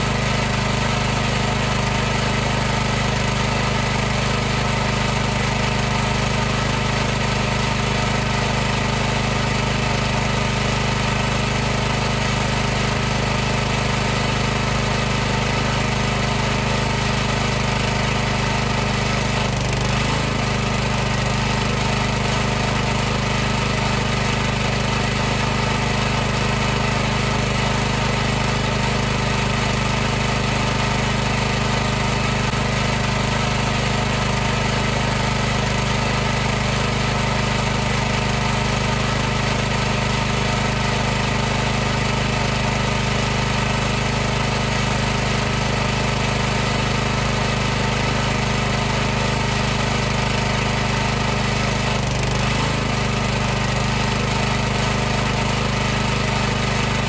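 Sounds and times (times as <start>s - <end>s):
pressure washer running: 0.0s - 57.0s.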